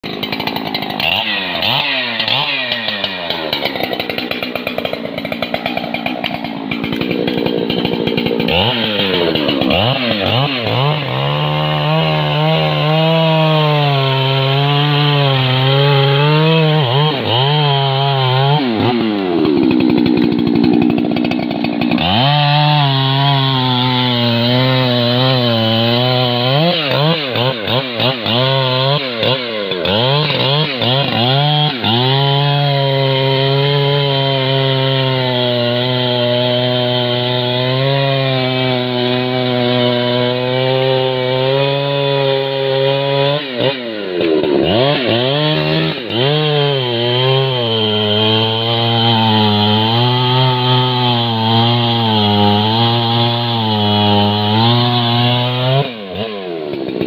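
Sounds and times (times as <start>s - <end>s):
chainsaw cutting into tree trunk: 0.0s - 57.0s.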